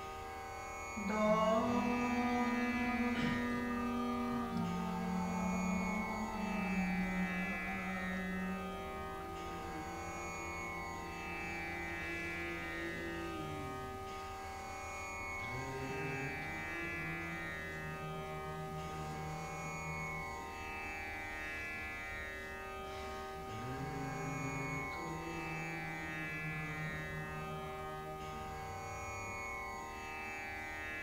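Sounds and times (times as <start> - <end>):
meditative drone music: 0.0 - 31.0.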